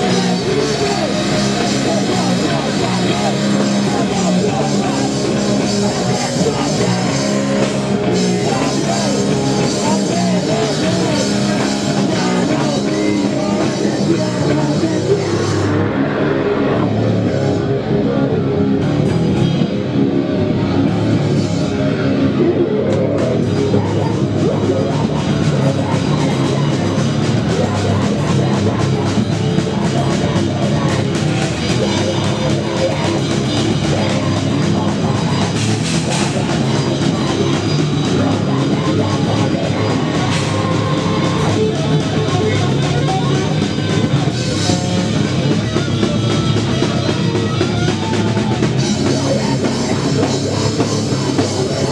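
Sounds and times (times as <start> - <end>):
drum kit fast beat: 0.0 - 17.6, 23.1 - 51.9
distorted electric guitar: 0.0 - 51.9.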